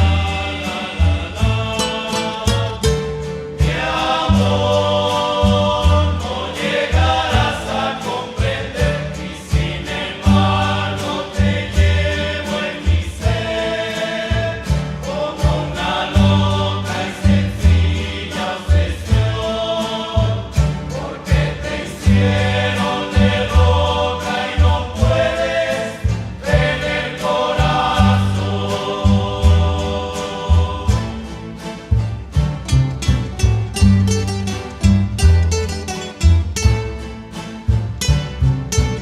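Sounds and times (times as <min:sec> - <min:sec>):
chorus of voices in harmony: 0:00.0 - 0:33.3
strummed guitars and bass: 0:00.0 - 0:39.0.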